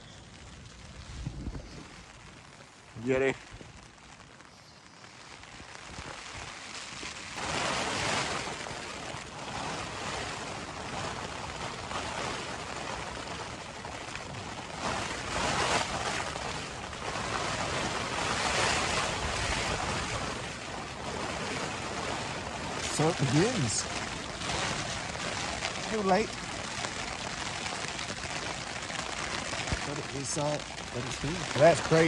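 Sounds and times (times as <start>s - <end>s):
wind and rain on a tent: 0.0s - 32.0s.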